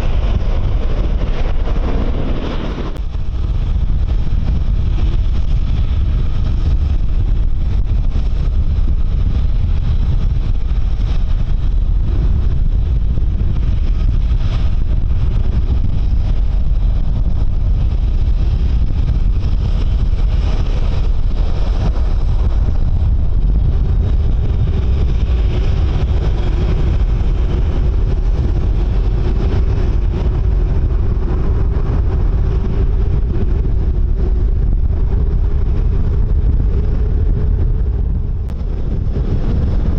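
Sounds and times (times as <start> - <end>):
jet aircraft engines: 0.0 - 39.9
wind buffeting microphone: 0.0 - 39.9.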